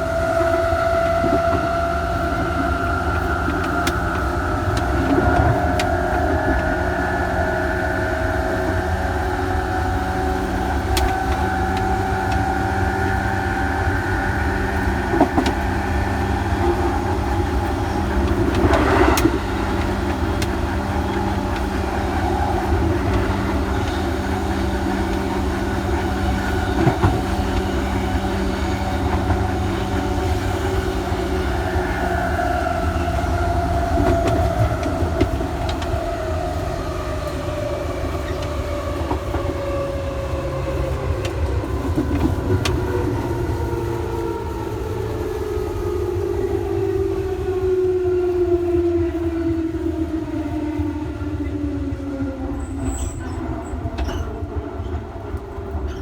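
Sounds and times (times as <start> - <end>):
electric motor whine: 0.0 - 47.0
train rumble: 0.0 - 56.0.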